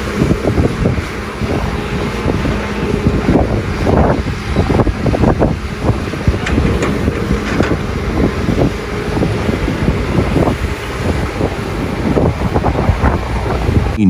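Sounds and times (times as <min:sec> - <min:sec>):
excavator diesel engine rumbling: 0:00.0 - 0:14.0
wind buffeting microphone: 0:00.0 - 0:14.0.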